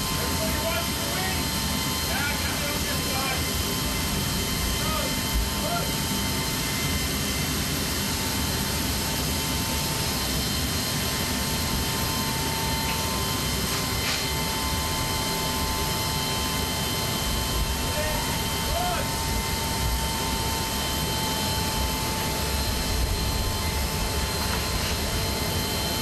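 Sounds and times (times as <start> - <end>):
jet turbines whining inside plane: 0.0 - 26.0.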